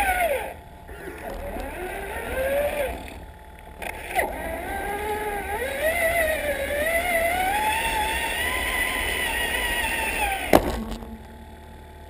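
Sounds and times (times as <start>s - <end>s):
electric toy truck motor whining: 0.0s - 11.9s.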